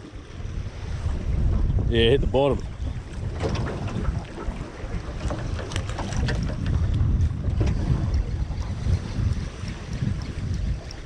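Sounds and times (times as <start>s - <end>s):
water slapping against hull: 0.0s - 11.0s
wind buffeting microphone: 0.0s - 11.0s.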